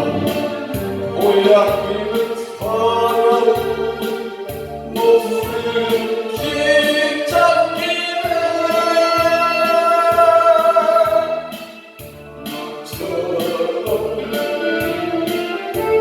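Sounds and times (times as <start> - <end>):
person singing with band: 0.0 - 11.8, 12.4 - 16.0
steady bass beat: 0.0 - 16.0.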